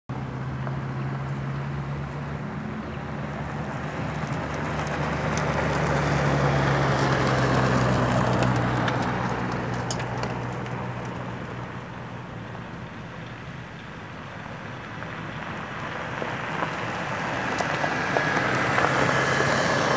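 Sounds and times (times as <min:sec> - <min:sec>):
propeller plane engine drone: 0:00.1 - 0:19.9.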